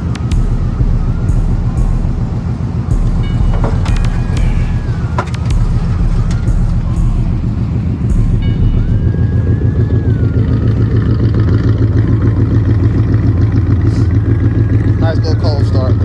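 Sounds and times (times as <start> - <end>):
engine idling with deep rumble: 0.0 - 16.0.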